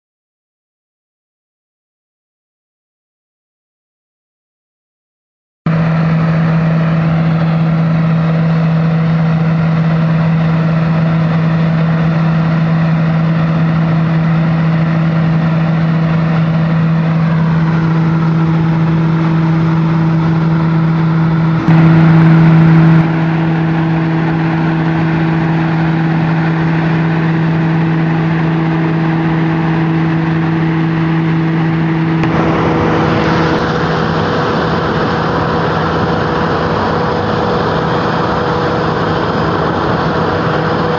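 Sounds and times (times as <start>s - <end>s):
sweeper engine humming: 5.7s - 40.9s.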